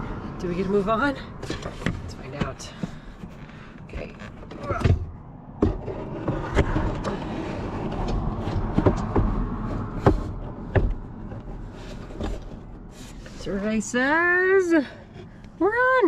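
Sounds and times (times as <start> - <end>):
knocks and clunks: 0.6 - 13.8
rubbing and shuffling: 0.7 - 15.9.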